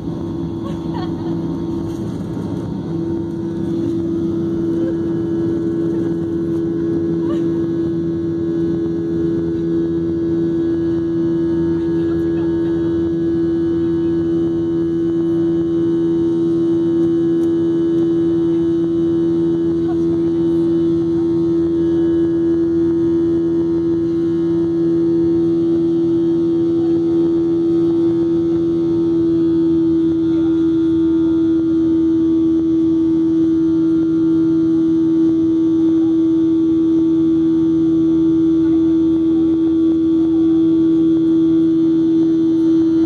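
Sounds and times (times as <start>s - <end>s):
jet engines droning in cabin: 0.0s - 43.0s.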